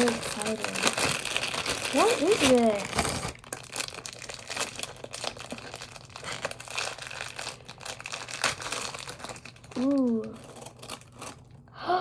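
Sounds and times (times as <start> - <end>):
plastic packaging crinkling and tearing: 0.0 - 11.6.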